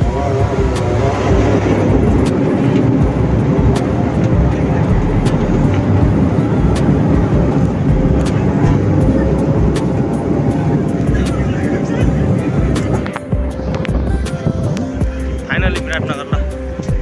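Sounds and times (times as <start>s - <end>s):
landing gear tyres rumbling: 0.0s - 17.0s
turboprop engines droning: 0.0s - 17.0s.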